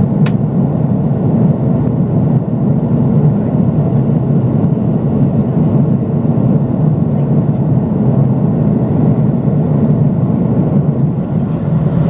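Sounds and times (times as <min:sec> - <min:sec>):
airliner cabin engine noise: 0:00.0 - 0:12.0.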